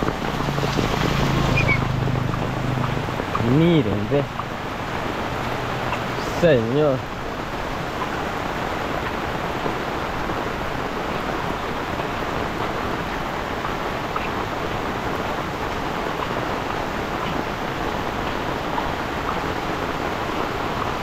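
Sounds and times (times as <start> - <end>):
heavy rain on wet pavement: 0.0 - 21.0.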